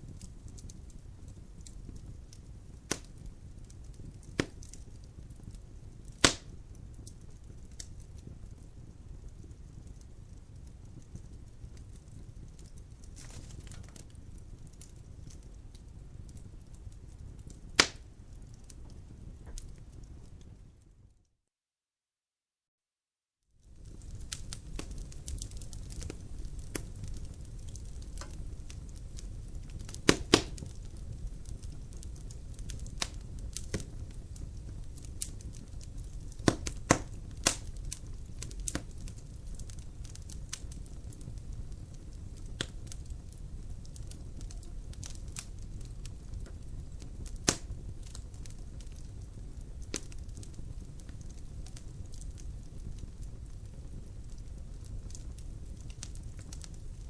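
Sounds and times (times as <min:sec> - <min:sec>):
wood fire pops: 0:00.0 - 0:20.5, 0:23.7 - 0:57.0
fire flames rumbling: 0:00.0 - 0:21.0, 0:23.6 - 0:57.0.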